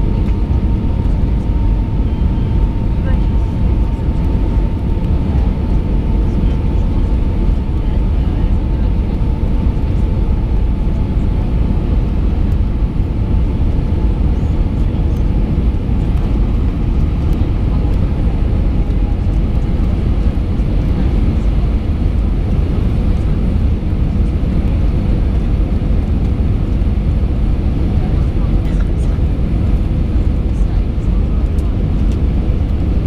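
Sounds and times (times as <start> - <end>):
faint steady hums: 0.0 - 33.0
jet engine cabin rumble: 0.0 - 33.0.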